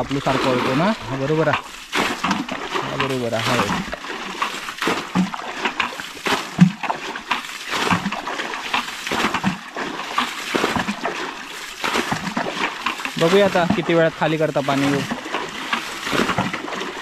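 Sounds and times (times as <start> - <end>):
water splashing from bucket: 0.0 - 17.0.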